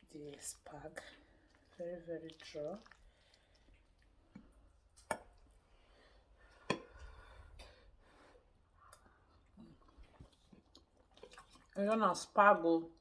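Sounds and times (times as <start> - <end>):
soft chewing: 0.0 - 11.9.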